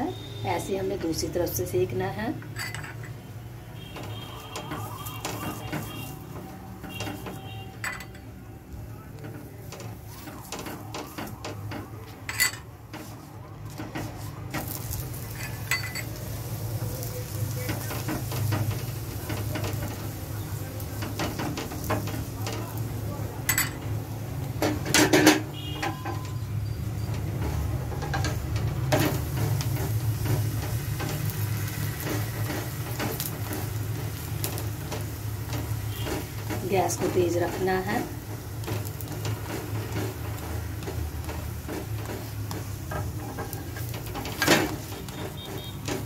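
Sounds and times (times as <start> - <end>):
flatbread sizzling on griddle: 0.0 - 46.0
utensils scraping and tapping griddle: 2.3 - 46.0.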